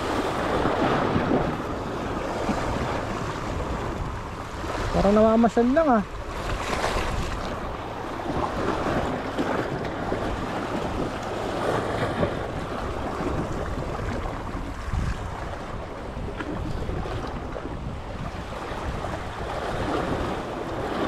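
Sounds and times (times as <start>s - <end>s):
sea waves washing in: 0.0s - 21.0s
wind buffeting microphone: 0.0s - 21.0s.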